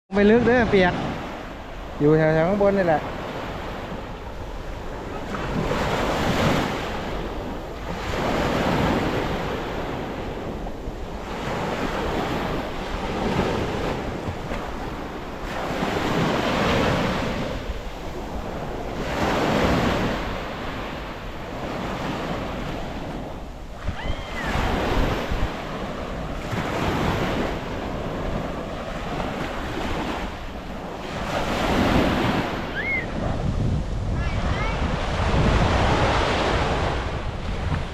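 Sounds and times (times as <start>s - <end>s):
sea waves breaking: 0.1s - 37.9s
wind buffeting microphone: 0.2s - 37.9s.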